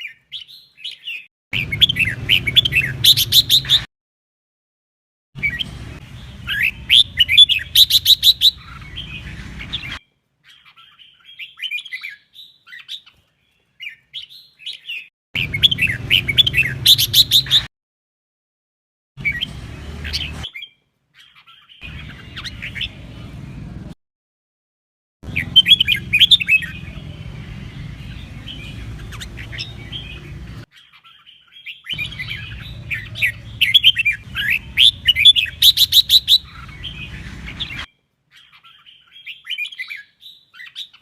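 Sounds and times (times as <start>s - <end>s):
bulbul singing whistled phrases: 0.0s - 3.9s, 5.4s - 13.1s, 13.8s - 17.7s, 19.2s - 23.3s, 25.3s - 41.0s.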